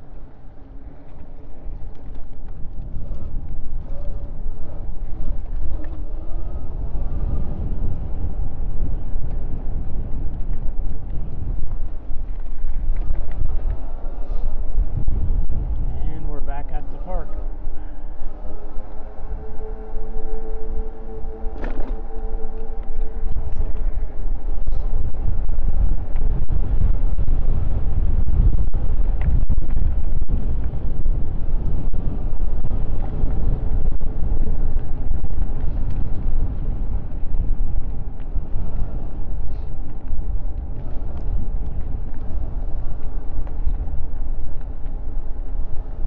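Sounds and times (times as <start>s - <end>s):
tyre and road noise: 0.0s - 46.0s
wind rushing over microphone: 0.0s - 46.0s.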